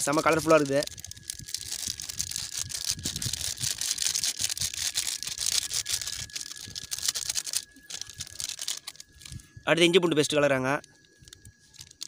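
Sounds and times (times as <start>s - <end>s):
plastic sachet crinkling and tearing: 0.0s - 9.4s, 10.8s - 12.0s.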